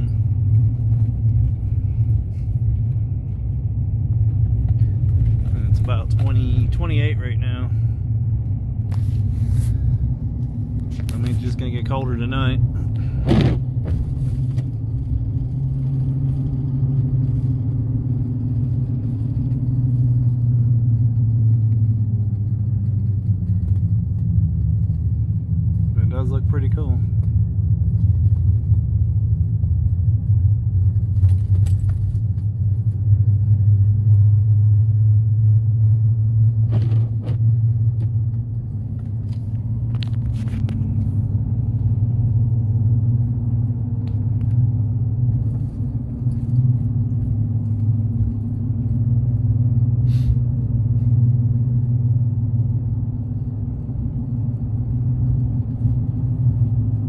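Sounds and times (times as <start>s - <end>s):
vehicle tyres and engine rumble: 0.0s - 57.0s.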